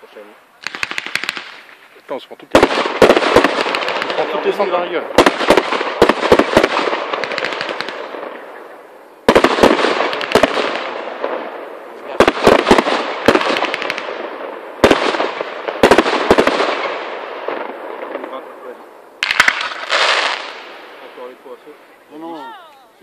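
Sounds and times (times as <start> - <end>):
fireworks crackle: 0.0 - 23.0
fireworks bursting with bangs: 0.1 - 23.0.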